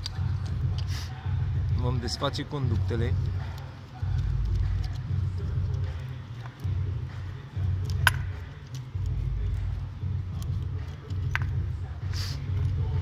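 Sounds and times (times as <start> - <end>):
low handling rumble: 0.0 - 13.0.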